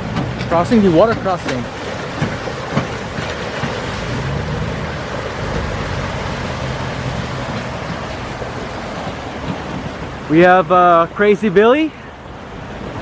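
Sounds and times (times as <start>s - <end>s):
low engine hum: 0.0s - 10.7s
water rushing and splashing: 0.0s - 13.0s.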